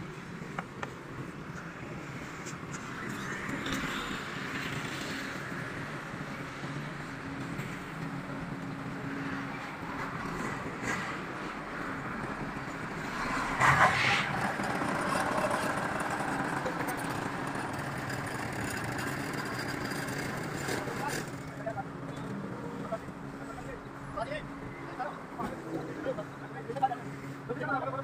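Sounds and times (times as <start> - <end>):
heavy diesel engines running: 0.0 - 28.0.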